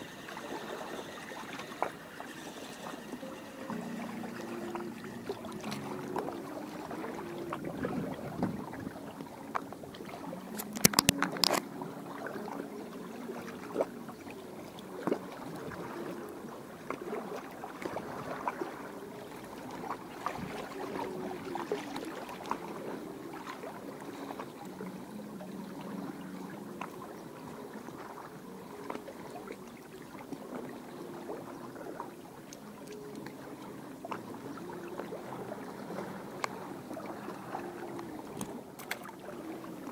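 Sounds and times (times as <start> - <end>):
water lapping and sloshing: 0.0 - 39.9.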